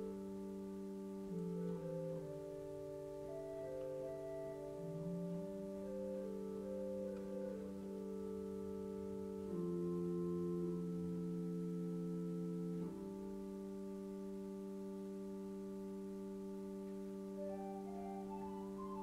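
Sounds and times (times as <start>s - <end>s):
keyboard chords: 0.0s - 19.0s
soft keyboard melody notes: 0.0s - 19.0s.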